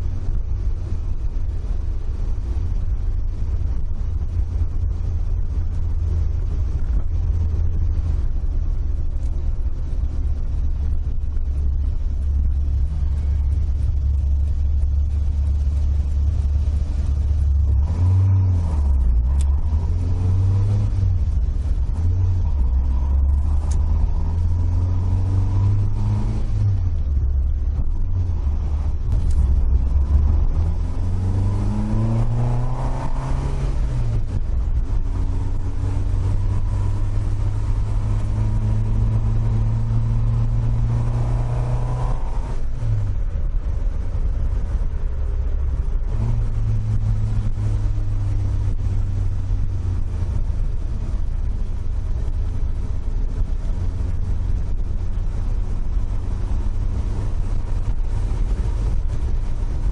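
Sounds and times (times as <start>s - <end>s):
car engine revving: 0.0s - 59.9s
road noise: 0.0s - 59.9s.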